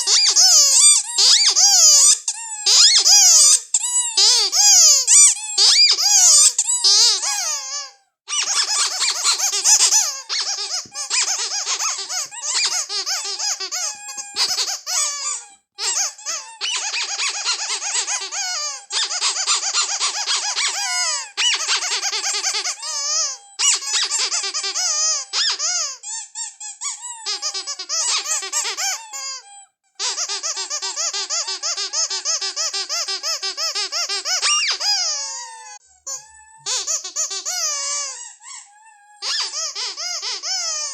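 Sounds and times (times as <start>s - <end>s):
rubber squeaky toy squeaking: 0.0s - 40.9s.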